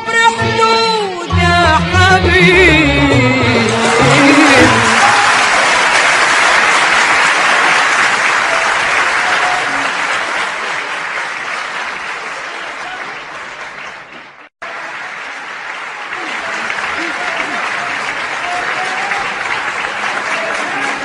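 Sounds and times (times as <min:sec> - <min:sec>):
audience applauding: 0:03.5 - 0:21.0.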